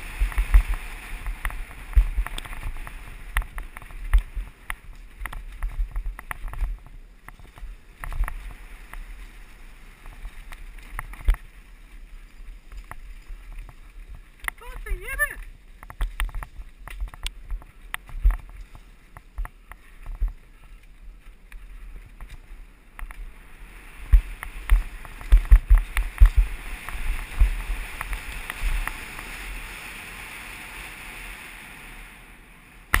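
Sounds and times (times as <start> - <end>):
wind buffeting microphone: 0.0 - 29.8
bike rattling over bumps: 0.0 - 31.1.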